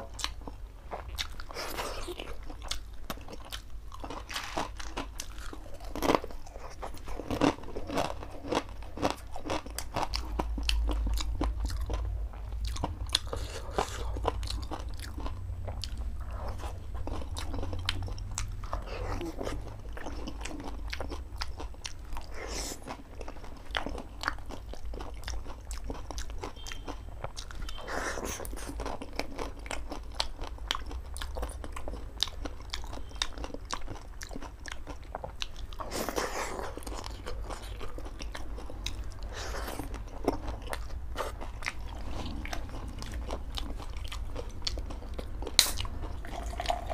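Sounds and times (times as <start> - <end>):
crunchy food being chewed: 0.0 - 46.9.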